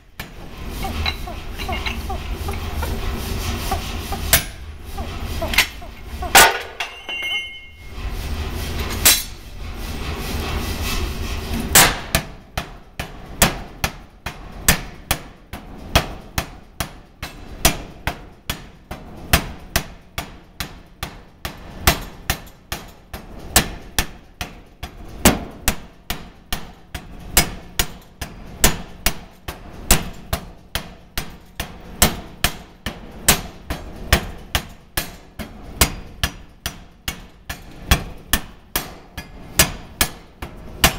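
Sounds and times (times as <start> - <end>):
power hammer metal blows: 0.0 - 8.0, 11.7 - 24.6, 25.2 - 40.9.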